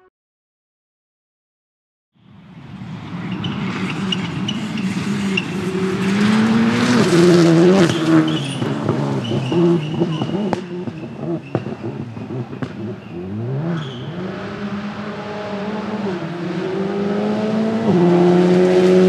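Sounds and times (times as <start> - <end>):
rally car engine revving: 3.4 - 19.0.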